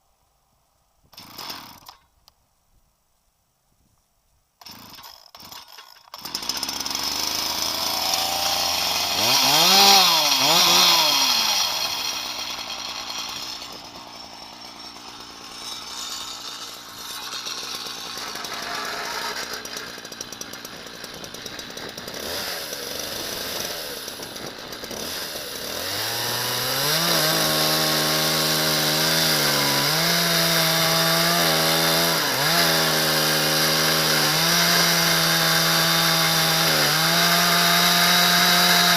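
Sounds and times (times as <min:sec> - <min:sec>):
chainsaw revving and idling: 0:01.1 - 0:02.0, 0:04.6 - 0:38.9.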